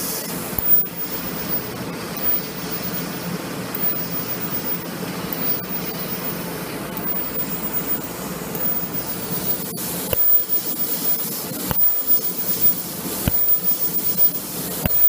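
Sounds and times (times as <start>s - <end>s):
laser cutter humming: 0.0s - 15.0s.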